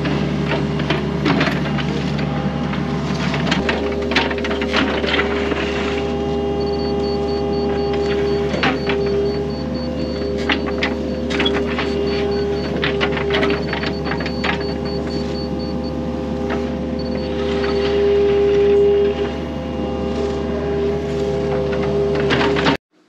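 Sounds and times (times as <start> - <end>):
excavator engine and hydraulics: 0.0 - 23.0.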